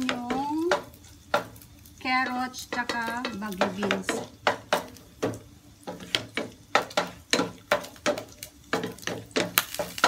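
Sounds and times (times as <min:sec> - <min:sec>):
wooden spatula scraping frying pan: 0:00.0 - 0:10.0.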